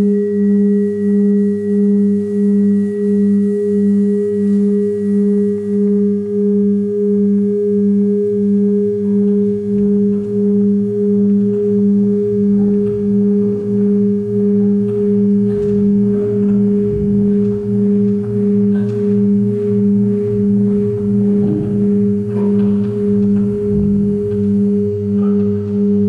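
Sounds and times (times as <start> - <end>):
throbbing low musical drone: 0.0 - 26.0.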